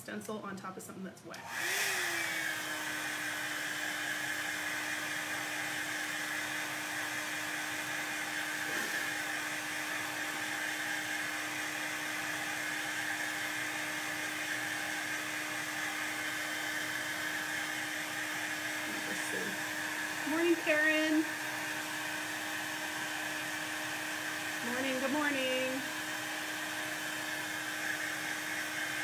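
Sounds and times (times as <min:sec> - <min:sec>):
heat tool blowing hot air: 0:01.4 - 0:29.0.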